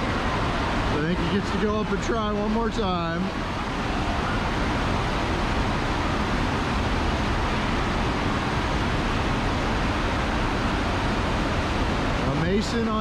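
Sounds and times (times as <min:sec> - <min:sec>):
rush of pumped water: 0:00.0 - 0:13.0.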